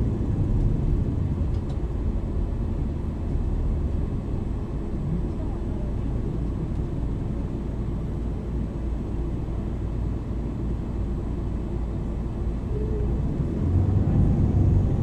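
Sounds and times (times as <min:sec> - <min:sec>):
city bus engine rumbling: 0:00.0 - 0:15.0.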